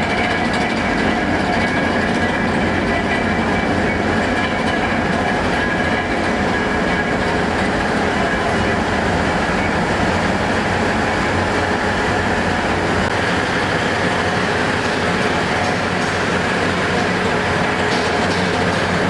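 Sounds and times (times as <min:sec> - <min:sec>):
railway turntable rotating: 0:00.0 - 0:19.0.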